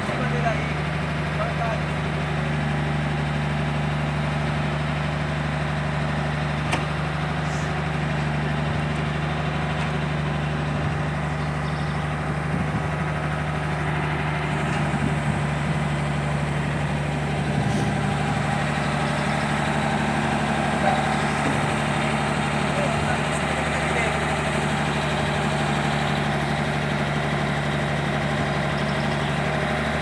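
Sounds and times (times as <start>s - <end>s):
motor humming: 5.5s - 30.0s.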